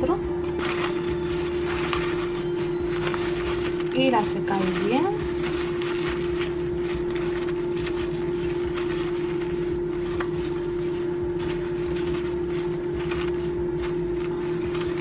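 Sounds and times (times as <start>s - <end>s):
kitchen paper rustling: 0.0s - 15.0s
steady electric hum: 0.0s - 15.0s.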